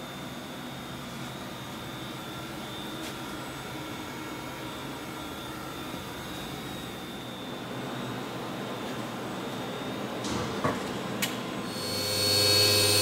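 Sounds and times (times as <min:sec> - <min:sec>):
machine humming with high whine: 0:00.0 - 0:13.0.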